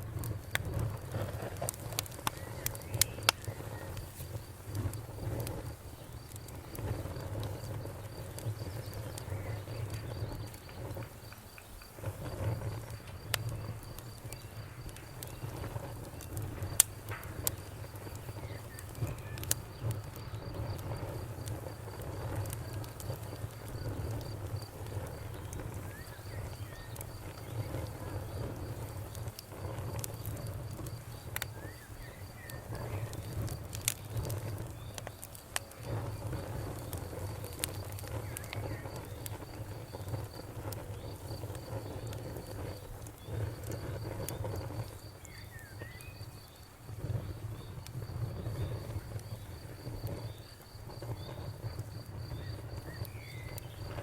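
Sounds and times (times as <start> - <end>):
bonfire crackling and popping: 0.0 - 54.0
low rumble of flames: 0.0 - 54.0
cricket chirping: 0.6 - 54.0.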